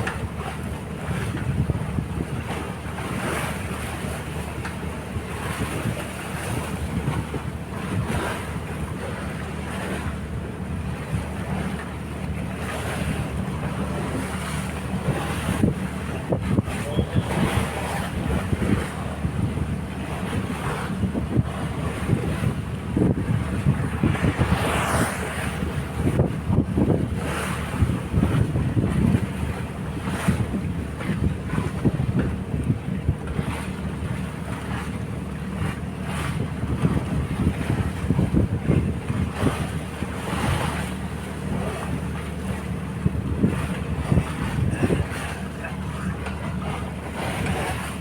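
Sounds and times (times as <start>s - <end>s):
sea waves washing: 0.0s - 48.0s
wind buffeting microphone: 0.0s - 48.0s.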